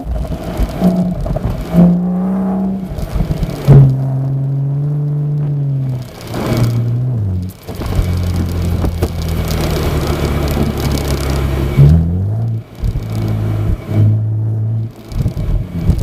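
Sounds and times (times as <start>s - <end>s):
car exhaust revving: 0.0s - 16.0s.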